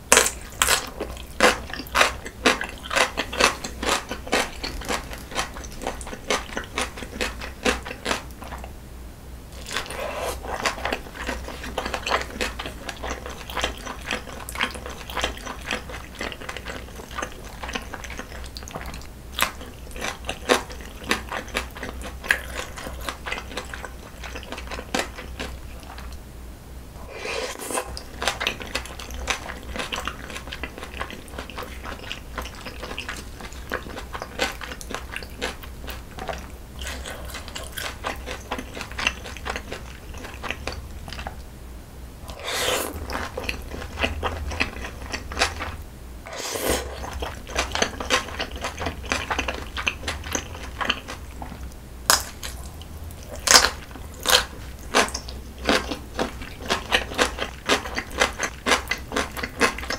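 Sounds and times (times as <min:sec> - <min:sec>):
faint low hum: 0:00.0 - 0:59.9
crunchy chewing: 0:00.1 - 0:08.7, 0:09.6 - 0:26.2, 0:27.1 - 0:41.4, 0:42.2 - 0:59.9.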